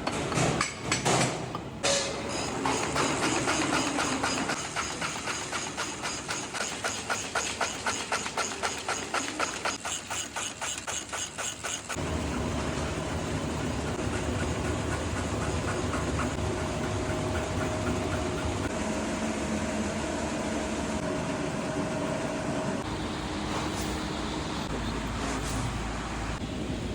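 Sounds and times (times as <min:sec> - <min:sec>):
mechanical running noise: 0:02.6 - 0:26.7.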